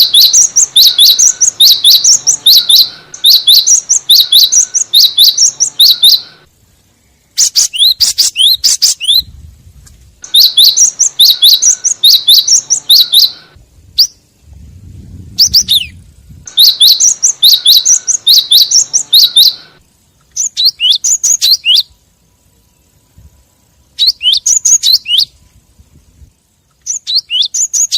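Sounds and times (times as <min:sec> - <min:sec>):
bird calls sharp chirps: 0:00.0 - 0:09.3, 0:10.2 - 0:14.6, 0:15.3 - 0:22.0, 0:23.9 - 0:25.6, 0:26.4 - 0:27.9.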